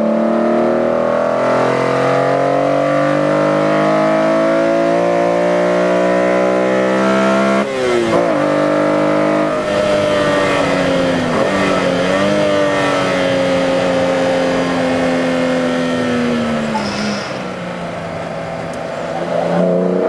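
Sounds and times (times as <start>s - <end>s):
car engine from inside cabin: 0.0s - 17.0s, 17.9s - 20.0s.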